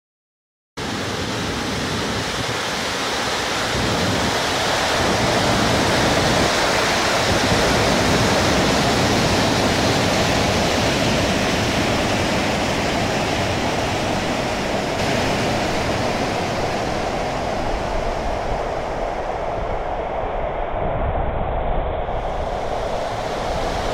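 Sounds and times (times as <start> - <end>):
waterfall rushing: 0.8 - 20.0, 22.4 - 23.9.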